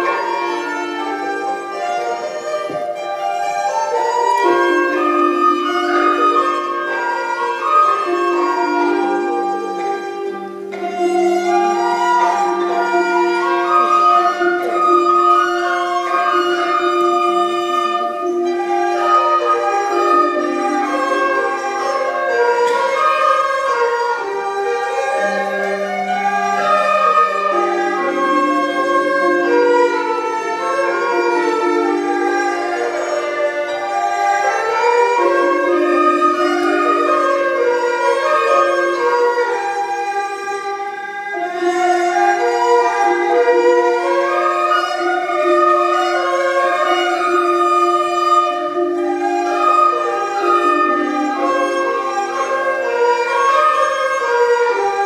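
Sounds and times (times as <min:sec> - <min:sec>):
bowed erhu melody: 0:00.0 - 0:55.0
traditional orchestra playing: 0:00.0 - 0:55.0.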